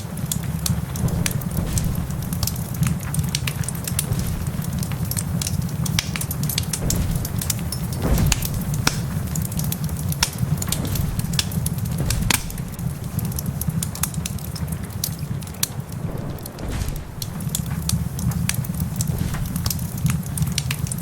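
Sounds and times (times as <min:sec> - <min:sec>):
fire popping and snapping: 0:00.0 - 0:21.0
fire rumbling: 0:00.0 - 0:21.0
rain pattering: 0:00.0 - 0:21.0.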